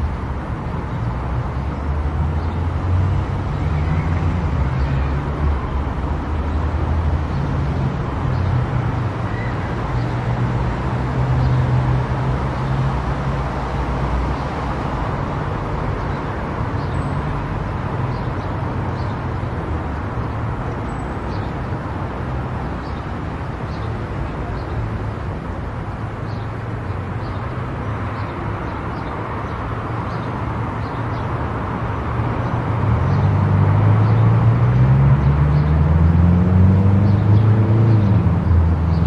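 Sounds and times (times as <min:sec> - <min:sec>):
tyre and road noise: 0:00.0 - 0:39.0.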